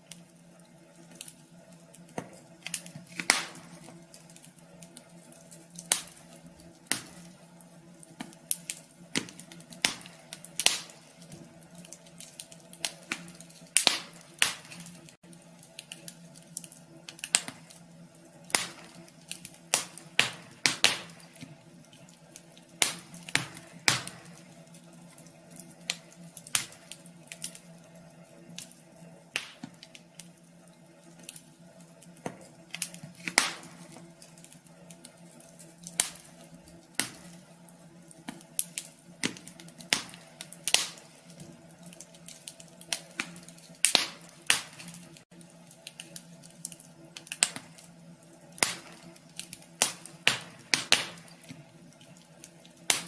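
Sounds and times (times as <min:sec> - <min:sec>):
faint steady hum: 0:00.0 - 0:53.0
wood fire crackling: 0:00.0 - 0:53.0.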